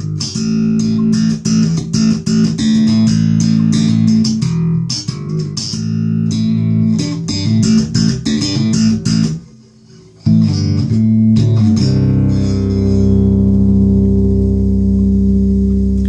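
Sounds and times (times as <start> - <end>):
electric bass plucked notes: 0.0 - 16.0.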